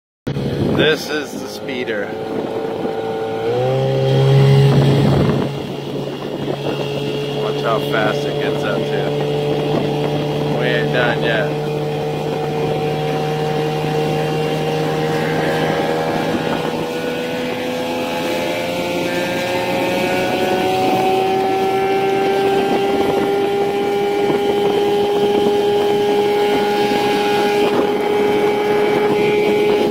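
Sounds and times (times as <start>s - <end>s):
outboard motor drone: 0.3s - 29.9s
wind and water rush: 0.3s - 29.9s.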